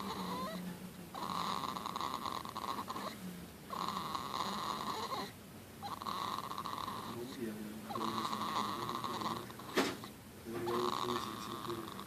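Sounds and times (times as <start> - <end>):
baby snoring: 0.0 - 12.0.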